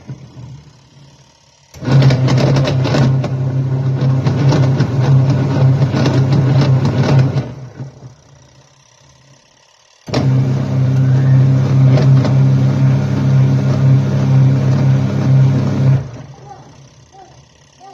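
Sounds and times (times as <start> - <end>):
washing machine motor humming: 0.0 - 17.9.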